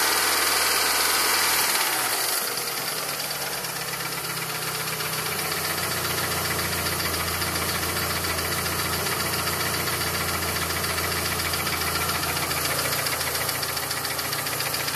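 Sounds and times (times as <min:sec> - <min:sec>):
car engine idling: 0:00.0 - 0:14.9
fast even engine ticking: 0:00.1 - 0:14.9.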